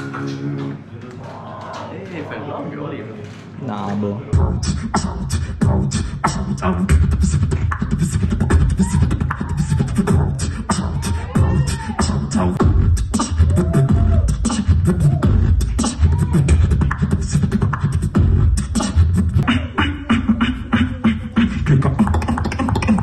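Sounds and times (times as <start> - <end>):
amplified beatboxing: 0.0 - 0.9, 4.3 - 23.0
gliding vocal tones: 4.0 - 23.0
heavy continuous bass: 4.3 - 23.0.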